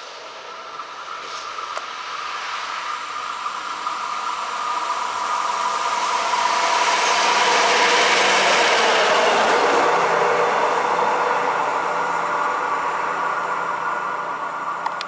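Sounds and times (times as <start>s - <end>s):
diesel locomotive passing: 0.0s - 15.0s
steady whine: 0.0s - 15.0s.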